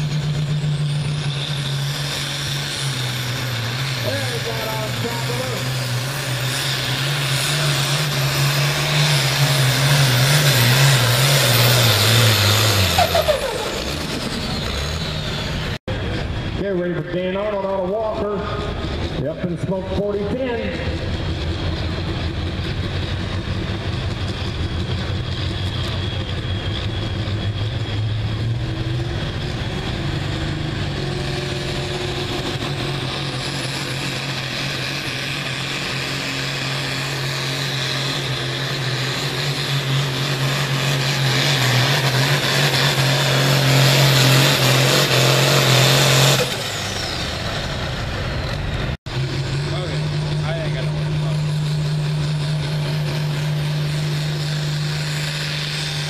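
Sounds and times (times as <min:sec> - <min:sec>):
tractor engine running flat out: 0:00.0 - 0:56.0.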